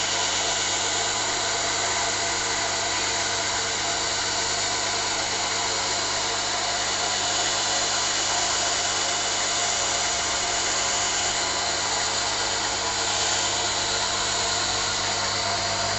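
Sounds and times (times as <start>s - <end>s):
vacuum pump running: 0.0s - 15.9s.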